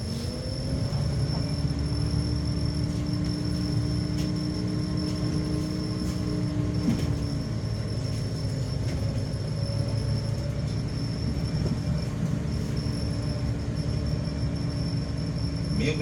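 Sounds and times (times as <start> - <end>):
bus rumbling in motion: 0.0 - 16.0
faint high whine: 0.0 - 16.0.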